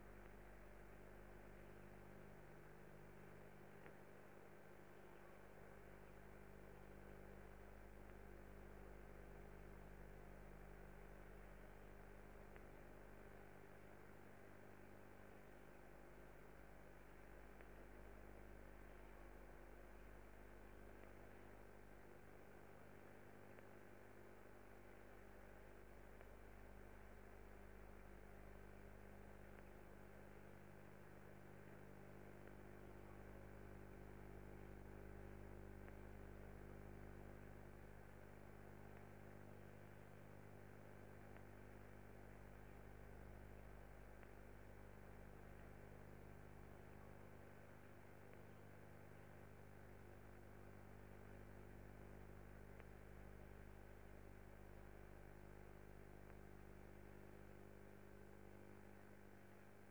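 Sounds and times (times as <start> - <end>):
faint electrical hum: 0.0 - 59.9.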